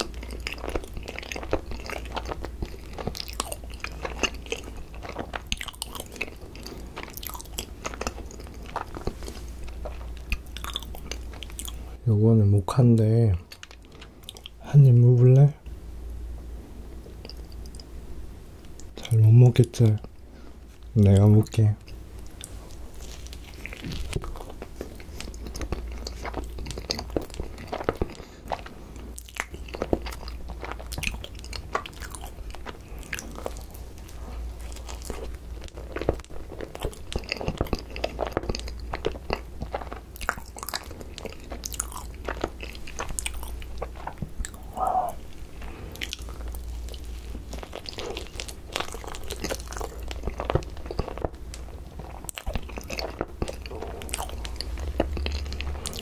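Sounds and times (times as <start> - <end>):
close chewing with wet mouth sounds: 0.0 - 12.0, 13.4 - 14.6, 17.1 - 17.9, 21.1 - 56.0.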